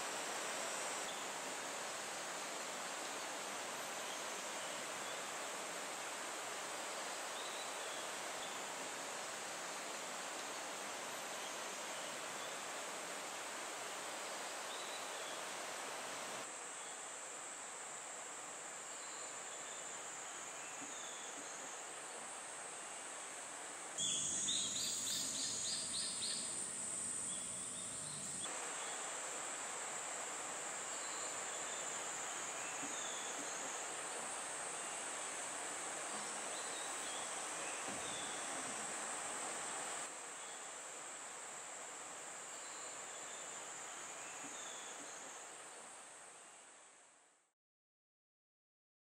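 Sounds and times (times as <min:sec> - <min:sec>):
high-pitched insect hum: 0:00.0 - 0:46.7.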